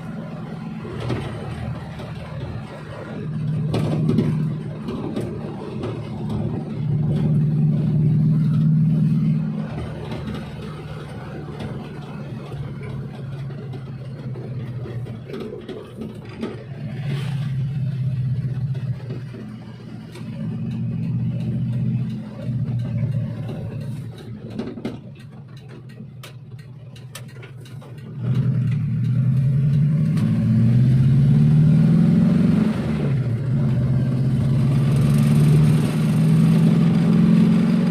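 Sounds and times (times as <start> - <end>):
van engine humming while driving: 0.0 - 37.9.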